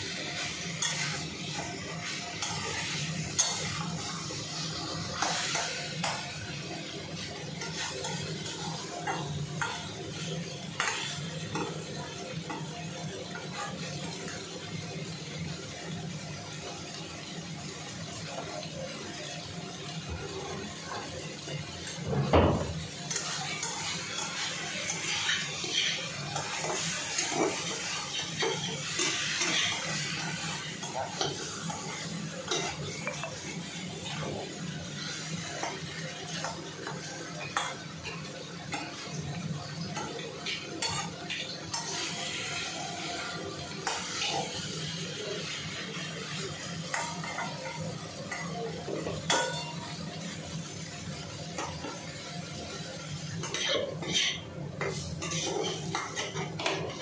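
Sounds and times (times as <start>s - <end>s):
meat sizzling: 0.0s - 57.0s.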